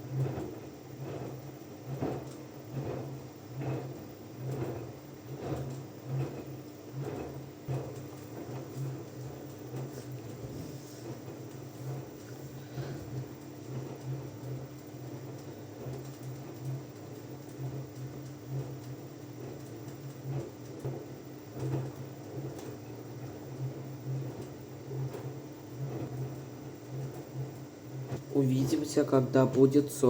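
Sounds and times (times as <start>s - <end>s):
washing machine humming: 0.0s - 30.0s.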